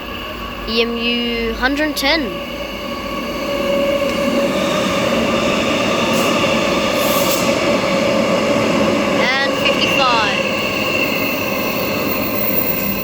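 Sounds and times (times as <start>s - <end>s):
electric train whine: 0.0s - 13.0s
train passing at speed: 0.0s - 13.0s
wheels rushing on rail: 0.0s - 13.0s.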